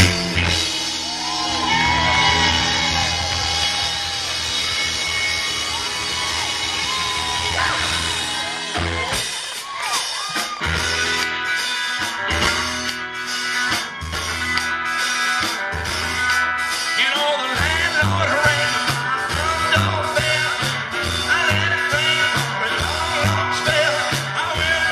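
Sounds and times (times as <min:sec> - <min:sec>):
bass: 0:00.0 - 0:24.9
drum kit: 0:00.0 - 0:24.9
electric guitar: 0:00.0 - 0:24.9.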